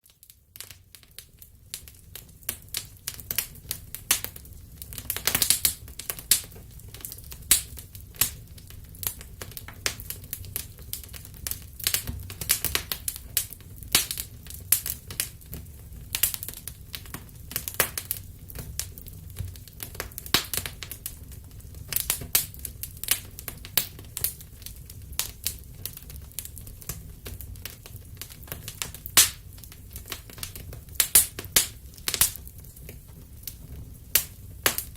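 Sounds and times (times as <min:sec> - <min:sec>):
wood fire crackling and popping: 0:00.0 - 0:34.9
low rumble of flames: 0:00.1 - 0:34.9.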